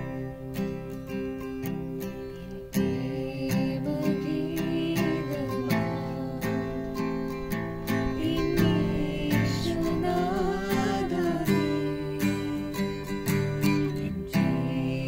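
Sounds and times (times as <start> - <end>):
acoustic guitar strumming: 0.0 - 15.0
voices singing a religious song: 2.6 - 15.0.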